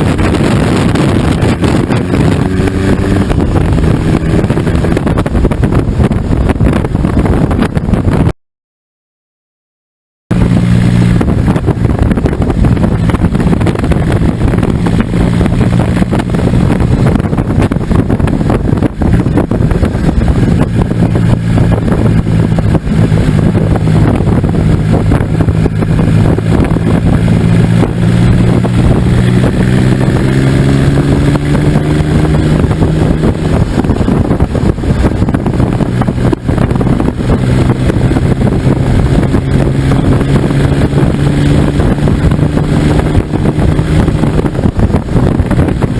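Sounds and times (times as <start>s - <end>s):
diesel motorcycle engine: 0.0s - 8.4s, 10.3s - 45.9s
wind noise on microphone: 0.0s - 8.4s, 10.3s - 45.9s.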